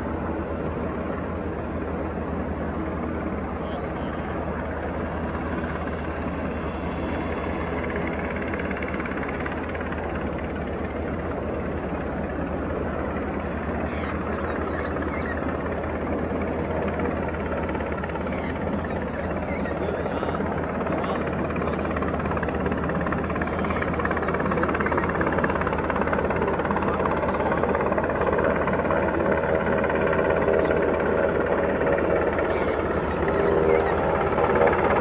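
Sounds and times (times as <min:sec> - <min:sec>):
helicopter rotor and turbine: 0:00.0 - 0:35.0.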